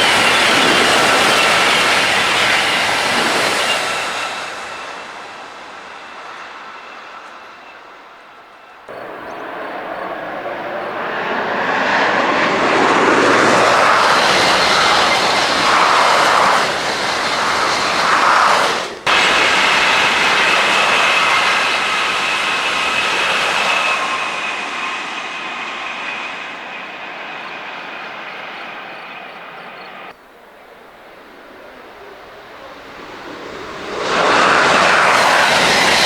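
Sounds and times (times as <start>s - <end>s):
high-speed train rushing past: 0.0s - 36.0s
steady high whine: 0.0s - 36.0s.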